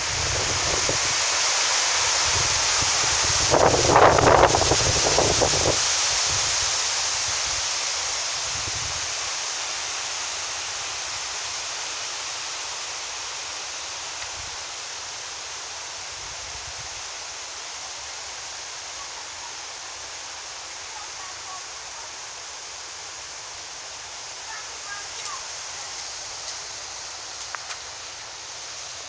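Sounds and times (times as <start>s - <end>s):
wind rustling tree leaves: 0.0s - 29.0s.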